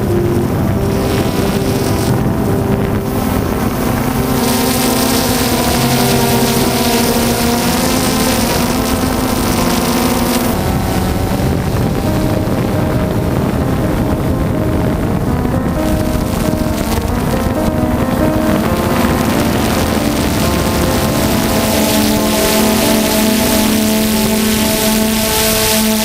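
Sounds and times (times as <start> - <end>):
drone propellers whining: 0.0 - 26.0
wind rushing over microphone: 0.0 - 26.0.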